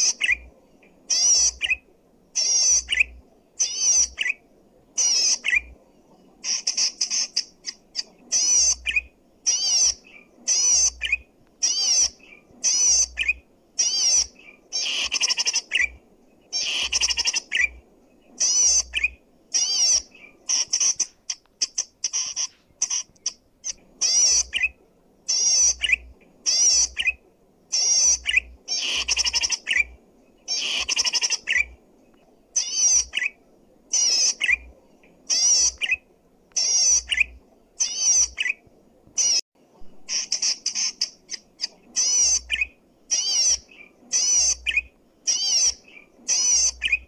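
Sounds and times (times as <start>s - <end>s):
bird buzzy chattering trills: 1.1s - 1.8s, 2.4s - 4.4s, 5.0s - 5.7s, 6.4s - 24.7s, 25.3s - 31.8s, 32.6s - 34.7s, 35.3s - 36.0s, 36.6s - 38.6s, 40.1s - 47.0s.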